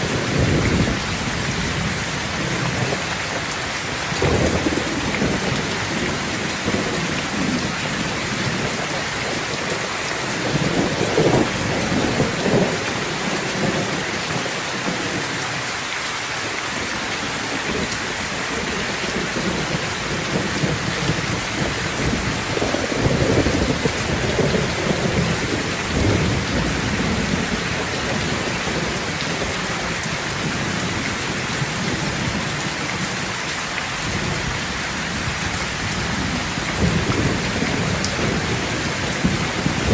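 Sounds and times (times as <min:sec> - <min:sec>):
thunder rumbling: 0:00.0 - 0:15.6, 0:16.8 - 0:39.9
heavy rain falling: 0:00.0 - 0:39.9.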